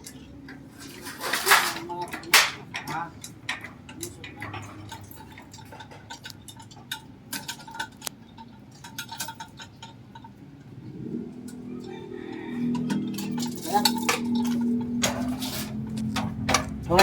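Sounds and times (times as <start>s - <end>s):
metal parts clinking and knocking: 0.0s - 10.4s, 12.7s - 17.0s.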